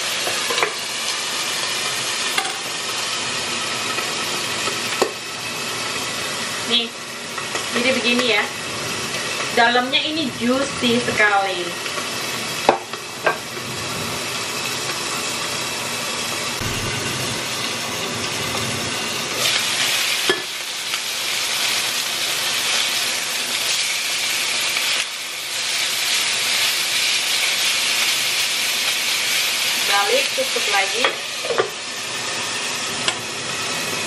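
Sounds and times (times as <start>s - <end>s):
chicken sizzling in a frying pan: 0.0s - 34.0s.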